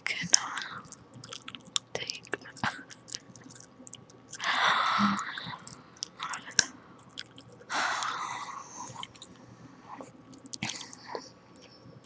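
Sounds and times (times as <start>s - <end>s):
gum chewing mouth smacks: 0.3s - 9.4s, 10.0s - 11.8s.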